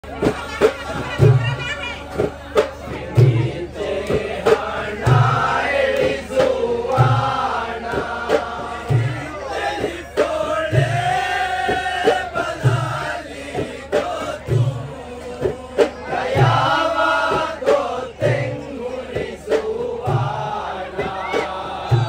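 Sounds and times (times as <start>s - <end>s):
men singing together: 2.1s - 22.0s.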